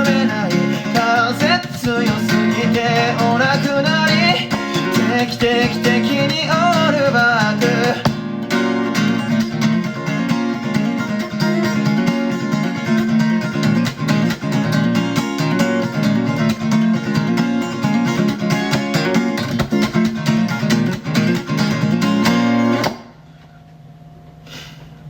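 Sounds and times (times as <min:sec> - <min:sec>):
acoustic guitar strumming: 0:00.0 - 0:23.2.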